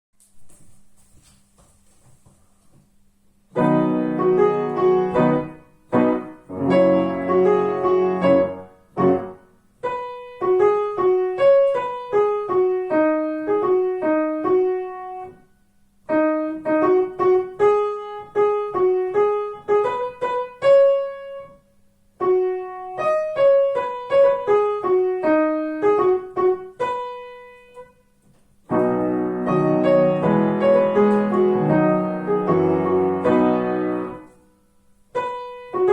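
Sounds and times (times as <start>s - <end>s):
piano playing: 3.5s - 15.5s, 16.1s - 35.9s.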